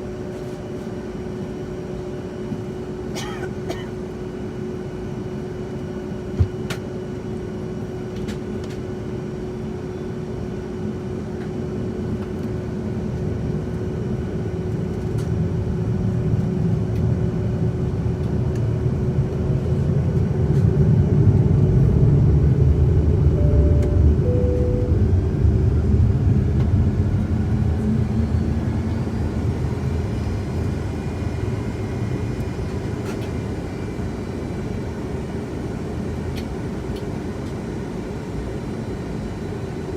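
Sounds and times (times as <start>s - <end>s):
jet engine rumbling in cabin: 0.0s - 39.9s.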